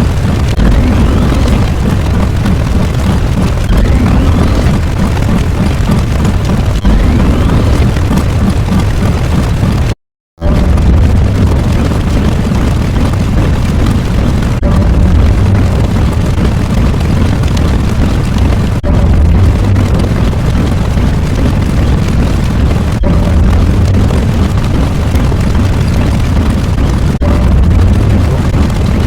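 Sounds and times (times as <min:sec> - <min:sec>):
deep explosion rumble: 0:00.0 - 0:29.0.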